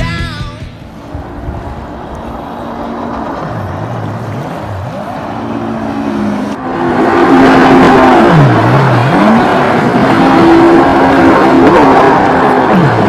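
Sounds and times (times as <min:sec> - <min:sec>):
louder engine: 0:00.0 - 0:13.0
jet ski engine revving: 0:00.9 - 0:13.0.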